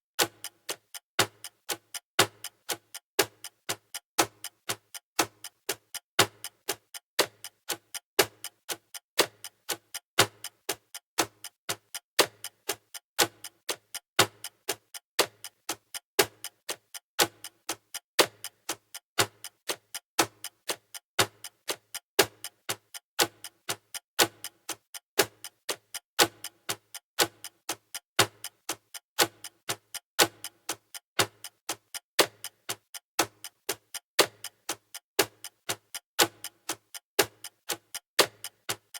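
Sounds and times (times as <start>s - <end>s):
countdown timer ticking: 0.2s - 38.9s.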